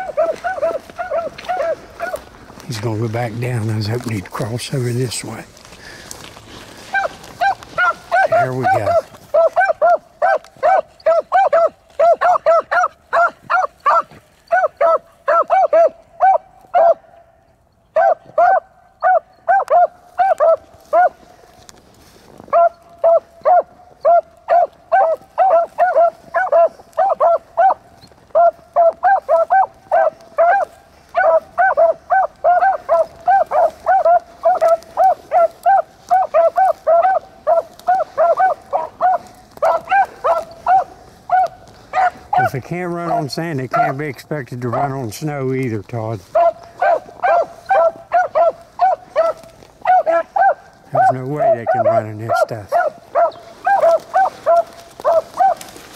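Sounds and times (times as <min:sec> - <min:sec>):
hounds baying: 0:00.0 - 0:17.3, 0:17.9 - 0:55.9.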